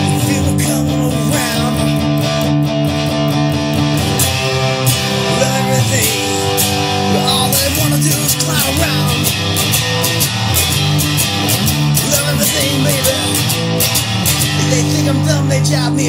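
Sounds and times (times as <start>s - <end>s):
guitar playing sustained chords: 0.0s - 16.0s.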